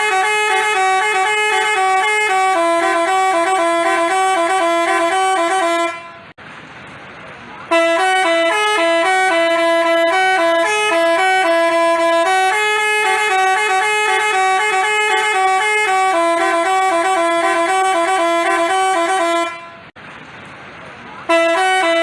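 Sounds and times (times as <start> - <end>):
bus horn playing a tune: 0.0 - 6.4, 7.7 - 20.0, 21.3 - 22.0.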